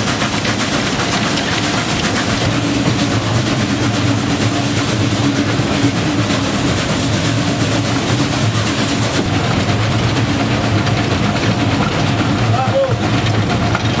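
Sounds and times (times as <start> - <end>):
steam locomotive exhaust beats: 0.0 - 14.0.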